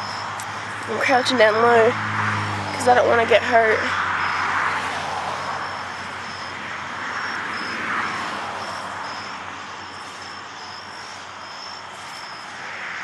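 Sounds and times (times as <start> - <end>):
distant traffic whoosh: 0.0 - 13.0
insects chirping: 0.0 - 13.0.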